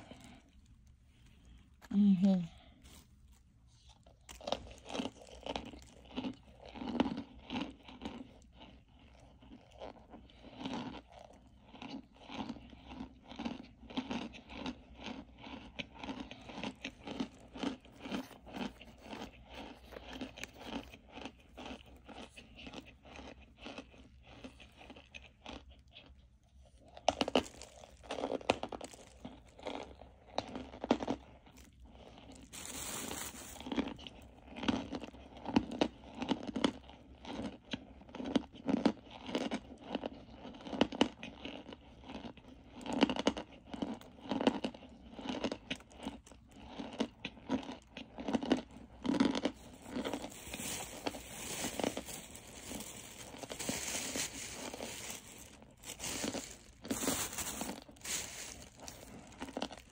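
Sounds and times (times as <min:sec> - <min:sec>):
chewing crunchy food: 0:00.0 - 0:59.9.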